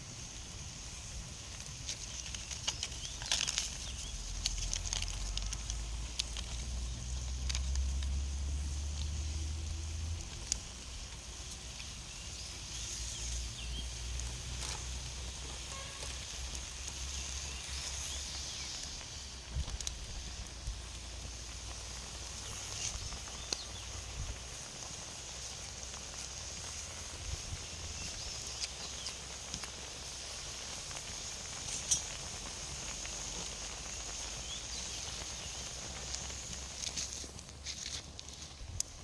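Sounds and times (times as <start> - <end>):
outdoor background hiss: 0.0 - 39.0.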